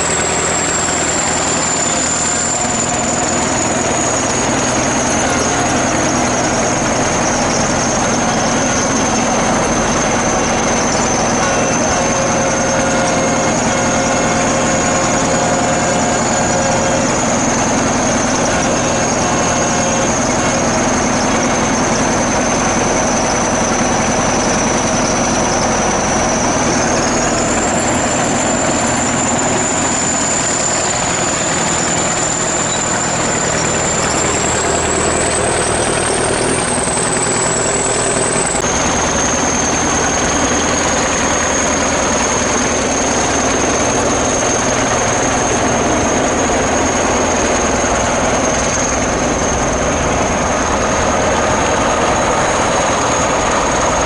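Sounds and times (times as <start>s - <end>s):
bulldozer diesel engine running: 0.0s - 54.0s
high mechanical whine: 0.0s - 54.0s.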